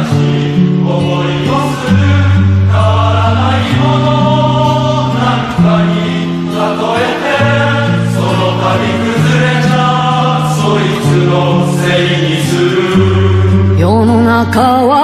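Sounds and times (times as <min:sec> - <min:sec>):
slow sustained music chords: 0:00.0 - 0:14.2.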